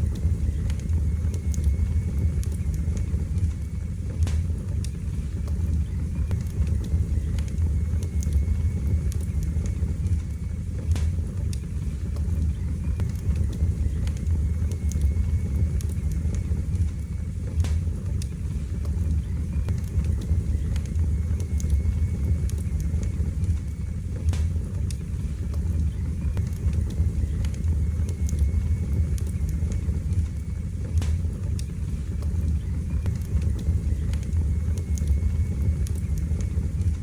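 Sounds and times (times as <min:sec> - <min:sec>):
fire crackling in fireplace: 0:00.0 - 0:37.0.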